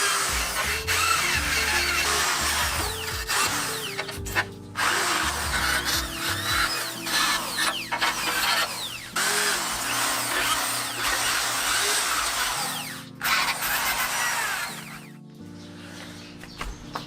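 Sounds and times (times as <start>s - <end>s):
drill wire brush scraping metal: 0.0s - 15.1s.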